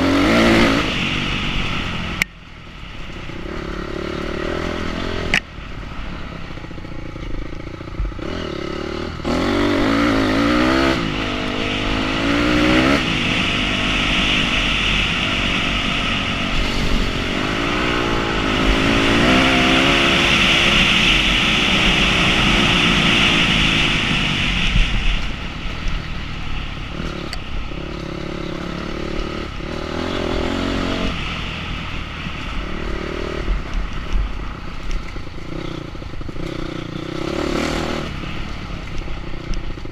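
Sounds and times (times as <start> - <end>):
motorcycle engine revving: 0.0 - 2.3, 3.0 - 39.9.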